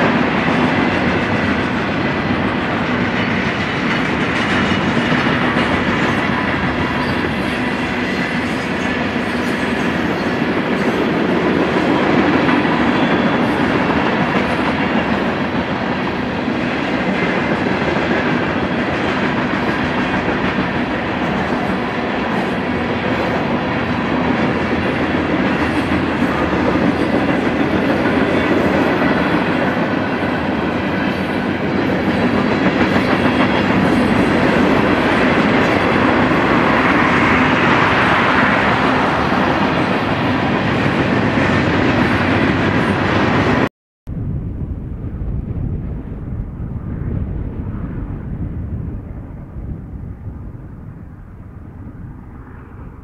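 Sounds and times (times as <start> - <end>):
freight train wheels clattering on track: 0.0 - 43.7.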